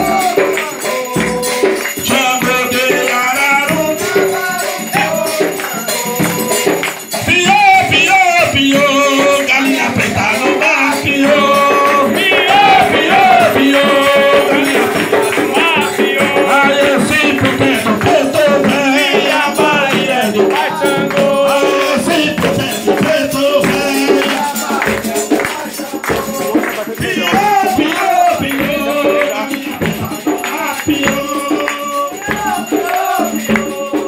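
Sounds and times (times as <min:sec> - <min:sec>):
hand clapping: 0:00.0 - 0:34.0
man singing into a microphone: 0:00.0 - 0:34.0
people singing along: 0:00.0 - 0:34.0
rattle percussion: 0:00.0 - 0:34.0.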